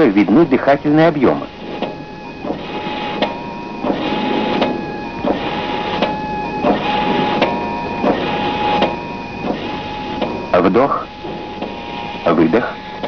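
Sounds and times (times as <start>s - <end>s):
mechanical whirr with whine: 0.0s - 13.0s.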